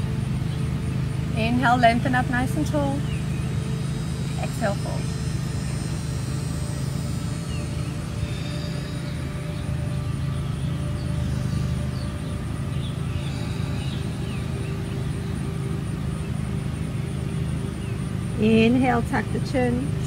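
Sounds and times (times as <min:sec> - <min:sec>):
bird chirps: 0:00.0 - 0:20.0
low outdoor rumble: 0:00.0 - 0:20.0.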